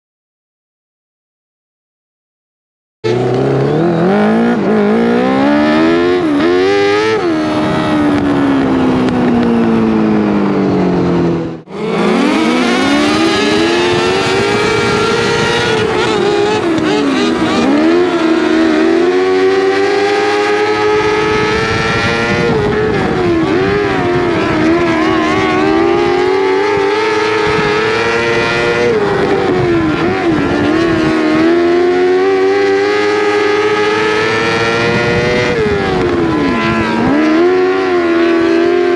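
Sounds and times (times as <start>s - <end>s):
racing engine revving: 3.0s - 38.9s.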